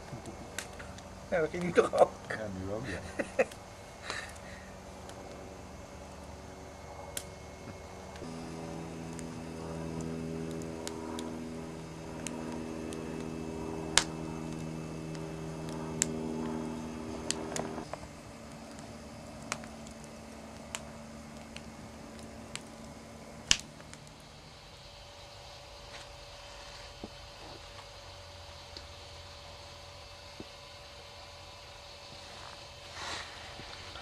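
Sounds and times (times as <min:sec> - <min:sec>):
steady low hum: 0:00.0 - 0:34.0
wood fire crackling and popping: 0:00.0 - 0:34.0.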